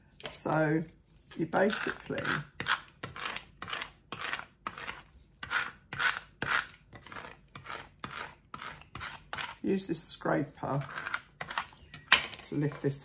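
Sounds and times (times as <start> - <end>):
scraper tool scraping tape: 1.3 - 9.7, 10.6 - 13.0.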